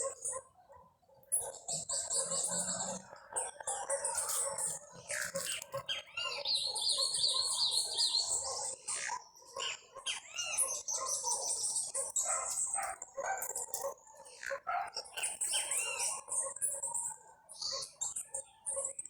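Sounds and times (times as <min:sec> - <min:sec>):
songbirds chirping and trilling: 0:00.0 - 0:19.0.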